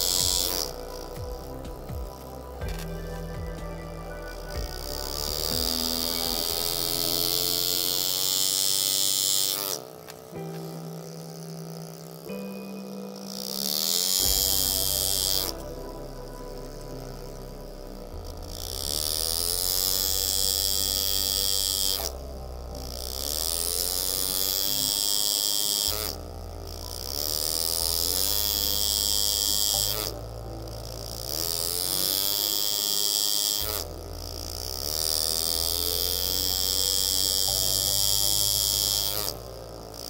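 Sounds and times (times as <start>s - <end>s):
air engraving tool buzzing on metal: 0.0s - 40.0s.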